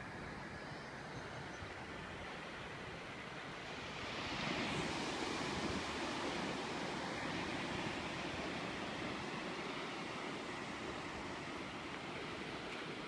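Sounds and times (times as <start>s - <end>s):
ocean surf breaking: 2.3s - 13.0s.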